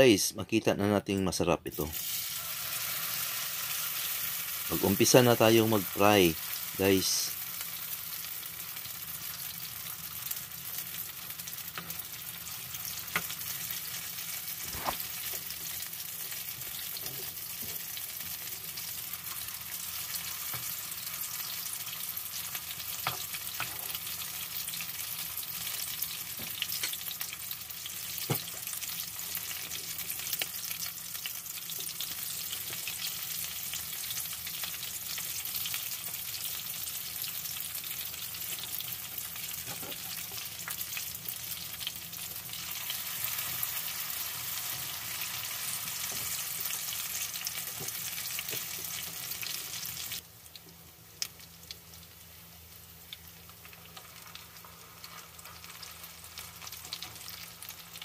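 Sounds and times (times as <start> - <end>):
batter sizzling in oil: 1.8 - 58.0.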